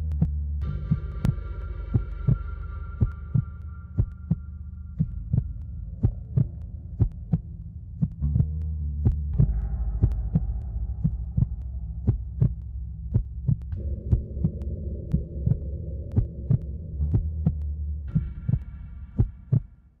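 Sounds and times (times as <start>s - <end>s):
heartbeat thumps: 0.0s - 19.8s
low droning hum: 0.0s - 20.0s.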